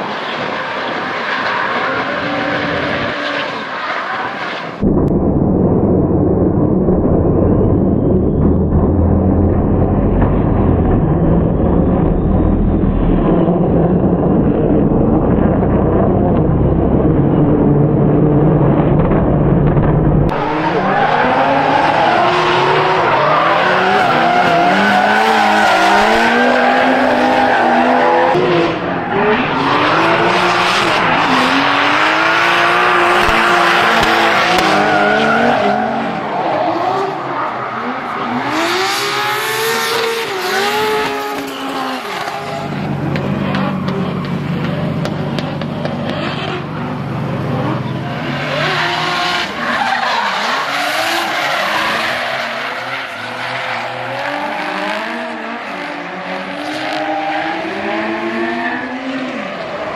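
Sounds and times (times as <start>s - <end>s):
car engines revving hard: 0.0s - 4.9s, 8.0s - 59.9s.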